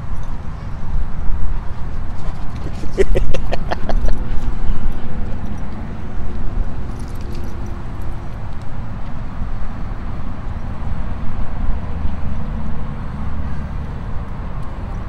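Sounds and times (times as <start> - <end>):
distant road traffic: 0.0 - 15.0.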